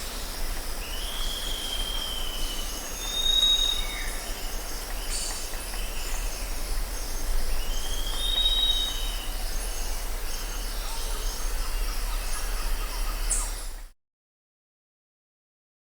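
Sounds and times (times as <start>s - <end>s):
long arching bird whistle: 0.0s - 13.8s
birds whistling and chirping: 0.0s - 13.9s
steady background hiss: 0.0s - 13.9s.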